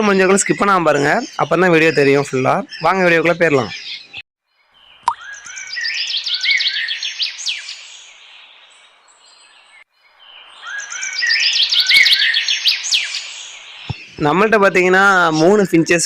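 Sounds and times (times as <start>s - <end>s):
songbird chirping and trilling: 0.0s - 16.0s.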